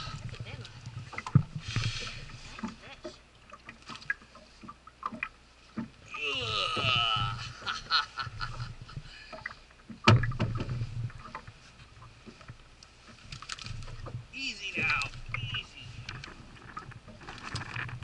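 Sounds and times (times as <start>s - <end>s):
knocks and clicks on boat: 0.0s - 6.0s, 8.5s - 18.0s.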